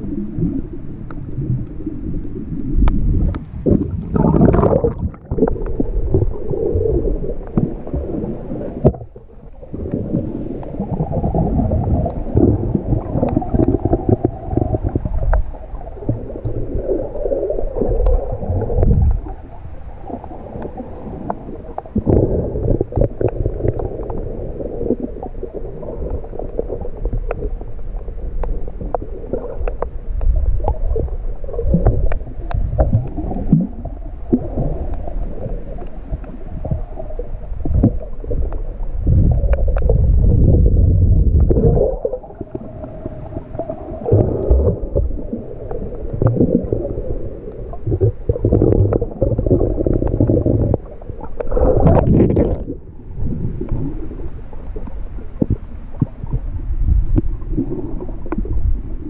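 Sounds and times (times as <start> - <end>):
underwater rumbling and gurgling: 0.0 - 59.0.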